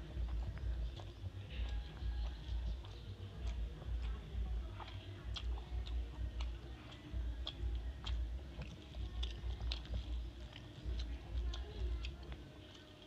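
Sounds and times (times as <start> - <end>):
wet chewing and mouth smacks: 0.0 - 13.0.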